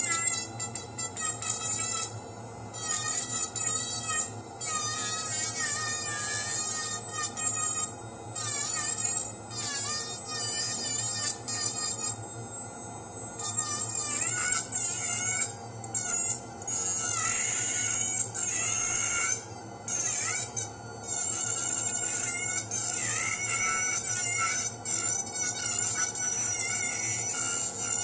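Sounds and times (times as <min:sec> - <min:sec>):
high-pitched micromotor whine: 0:00.0 - 0:28.0.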